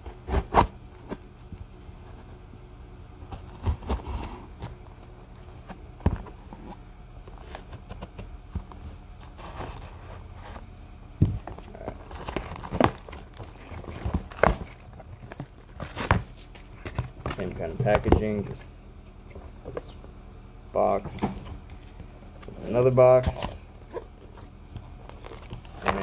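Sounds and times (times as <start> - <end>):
cardboard rustling and scraping: 0.0 - 2.5, 3.2 - 20.0, 21.1 - 26.0.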